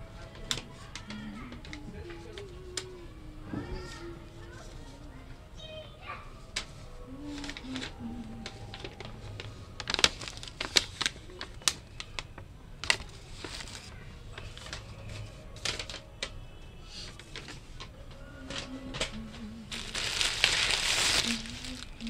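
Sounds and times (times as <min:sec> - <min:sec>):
bubble wrap and paper crinkling: 0:00.0 - 0:05.8, 0:06.4 - 0:22.0.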